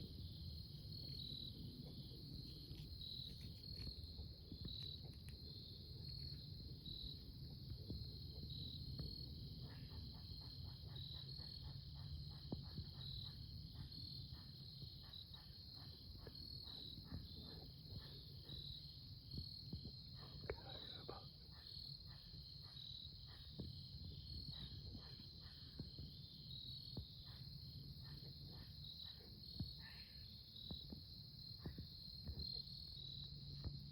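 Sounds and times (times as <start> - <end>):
crickets chirping: 0.0 - 33.9
faint ticks and rustles: 1.0 - 33.9.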